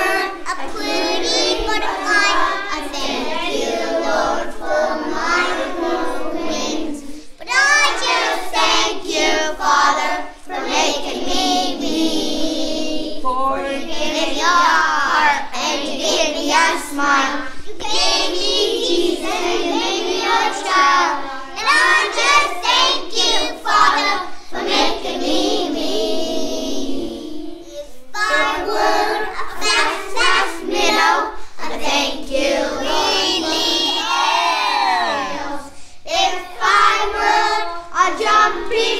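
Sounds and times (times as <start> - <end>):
children singing together: 0.0 - 38.9.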